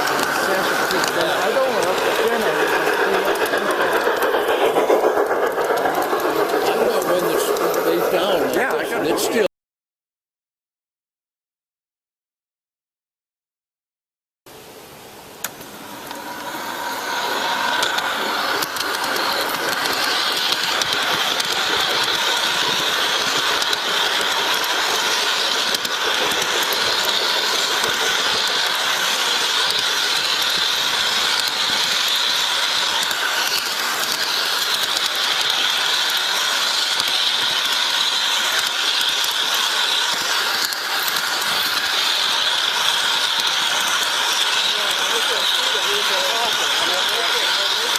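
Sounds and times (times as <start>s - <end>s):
model train motor whine: 0.0s - 9.4s, 15.4s - 47.9s
wheels clicking on rail: 0.0s - 9.5s, 15.4s - 47.9s.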